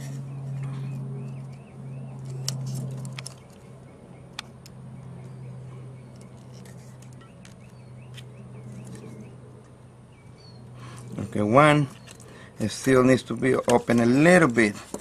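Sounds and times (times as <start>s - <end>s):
bird chirping: 0.0s - 14.2s
steady low hum: 0.0s - 15.0s.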